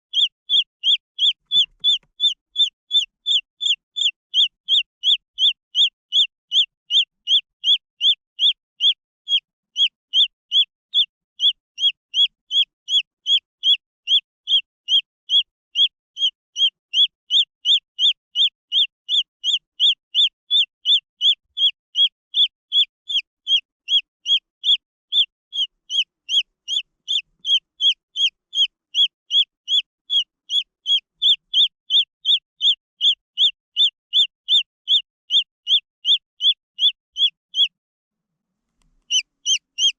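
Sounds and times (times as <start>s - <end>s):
chick peeping: 0.1s - 37.7s, 39.0s - 39.9s.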